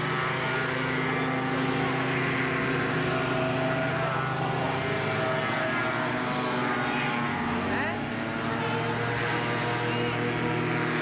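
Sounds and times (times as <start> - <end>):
hovercraft engines droning: 0.0 - 11.0.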